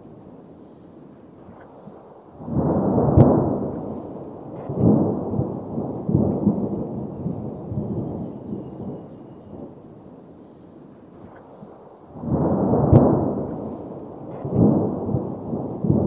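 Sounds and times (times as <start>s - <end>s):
rolling thunder: 1.4s - 9.7s, 11.2s - 16.0s.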